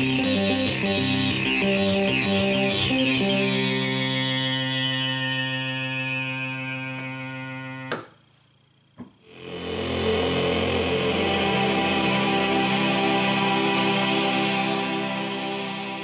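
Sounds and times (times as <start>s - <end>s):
low synthesizer drone: 0.0s - 7.9s, 9.2s - 16.0s
synthesizer chord: 0.0s - 7.9s, 9.2s - 16.0s.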